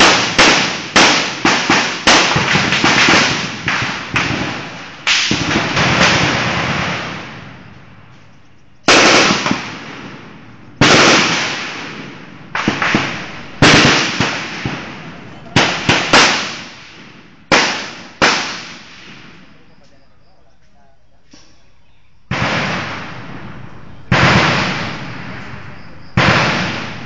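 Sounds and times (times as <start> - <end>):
rifle shots with rolling echo: 0.0 - 19.8, 22.3 - 27.0.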